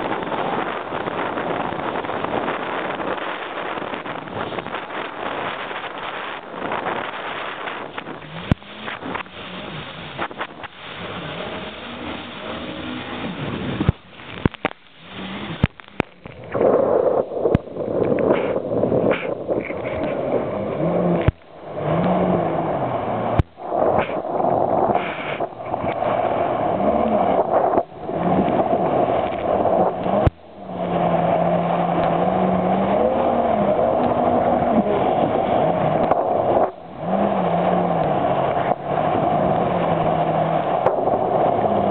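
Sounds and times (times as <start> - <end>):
jet ski engine revving: 0.0 - 17.3, 18.0 - 41.9
wind noise on microphone: 0.0 - 41.9.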